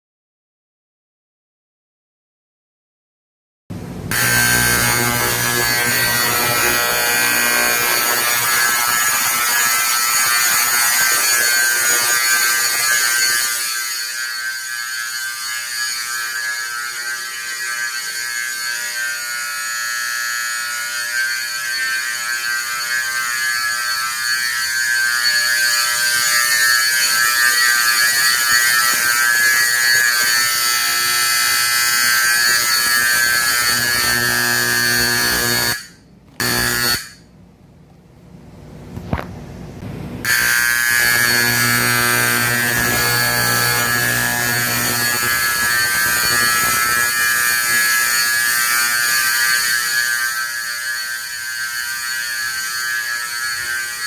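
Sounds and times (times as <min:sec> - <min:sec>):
fire alarm horn blaring: 0:04.1 - 0:37.3, 0:40.2 - 0:54.0.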